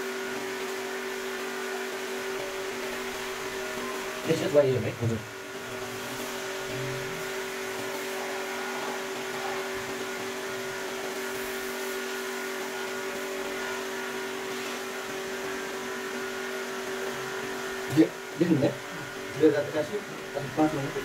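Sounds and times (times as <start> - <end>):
motor hum with whir: 0.0 - 21.0.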